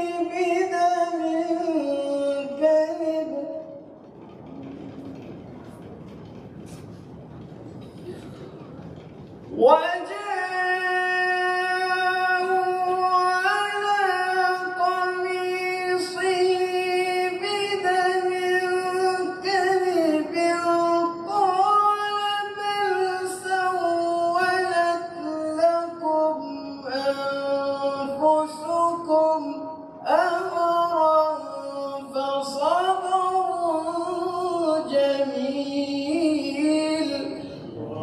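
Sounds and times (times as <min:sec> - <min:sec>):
man reciting melodically: 0:00.0 - 0:04.0, 0:09.5 - 0:38.0.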